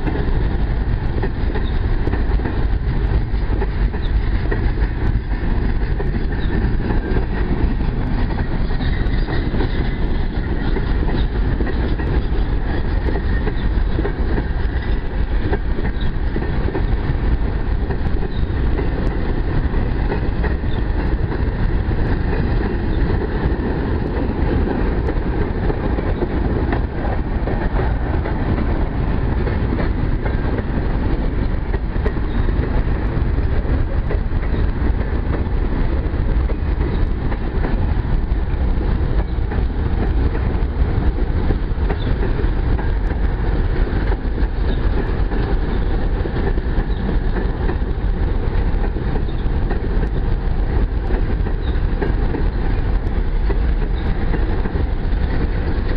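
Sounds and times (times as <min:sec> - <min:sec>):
freight wagons rolling on rails: 0:00.0 - 0:55.9.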